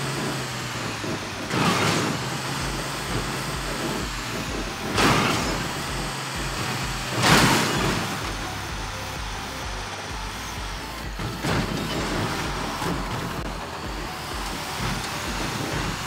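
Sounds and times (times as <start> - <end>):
loud hissing bursts: 0.0 - 16.0
vehicle engine running: 0.0 - 16.0.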